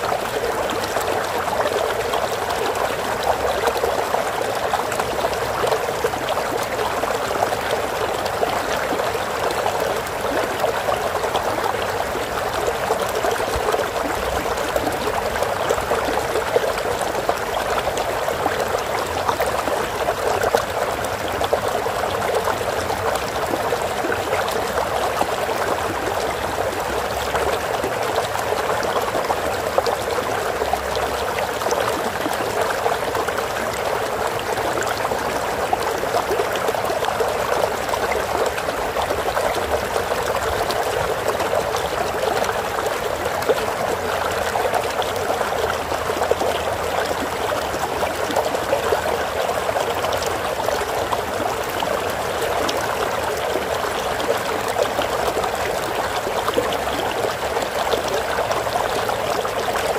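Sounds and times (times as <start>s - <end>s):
stream water flowing and trickling: 0.0s - 59.9s.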